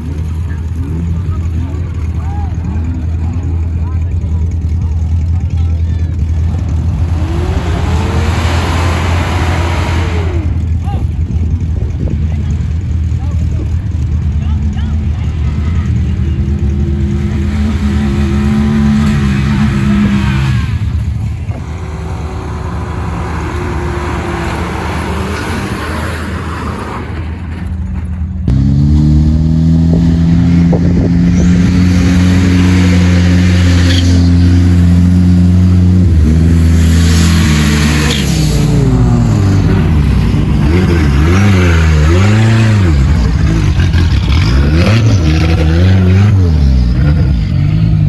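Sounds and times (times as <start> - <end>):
vehicle engine revving: 0.0 - 48.0.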